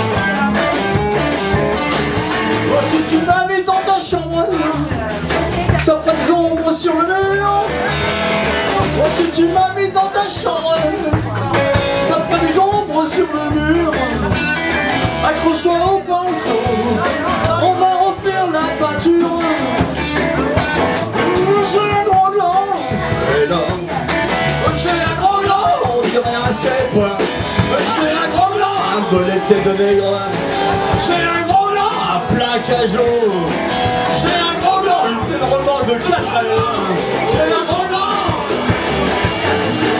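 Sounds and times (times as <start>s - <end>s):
bass and drums: 0.0s - 39.9s
electric guitar lead line: 0.0s - 39.9s.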